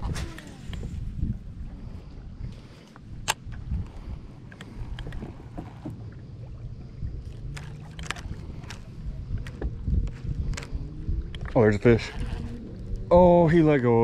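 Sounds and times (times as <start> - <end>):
water lapping against boat hull: 0.0 - 14.0
wind buffeting microphone: 0.0 - 14.0.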